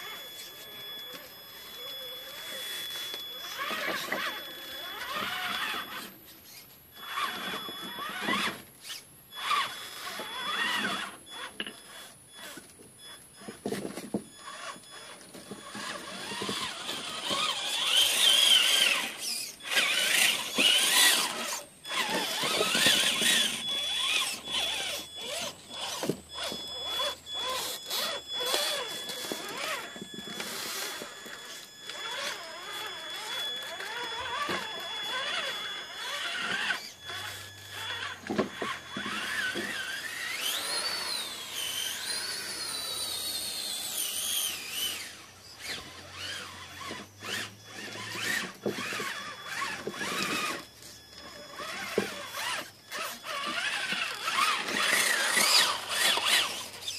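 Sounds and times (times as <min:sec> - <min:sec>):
rc truck motor whining: 0:00.0 - 0:56.9.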